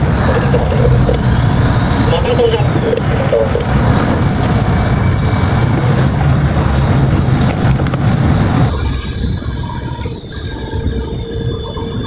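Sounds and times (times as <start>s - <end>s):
faint steady tones: 0.0s - 12.0s
strong wind on microphone: 0.0s - 12.0s
tugboat engine running: 0.0s - 12.0s.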